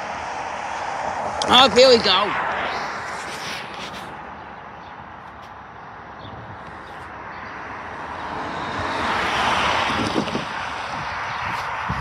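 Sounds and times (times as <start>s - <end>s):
car tyre noise: 0.0s - 12.0s
vehicle approaching: 0.0s - 12.0s.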